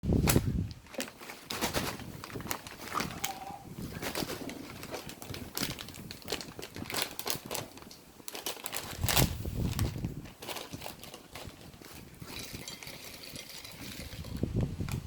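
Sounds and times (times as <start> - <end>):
crinkling snack packaging: 0.2 - 15.0.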